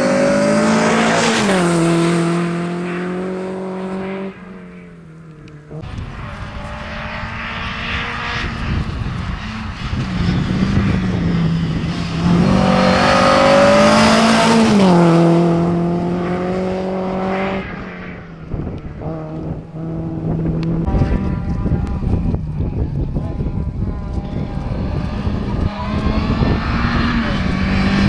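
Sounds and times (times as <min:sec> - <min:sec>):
rally car engine at high revs: 0:00.0 - 0:28.0.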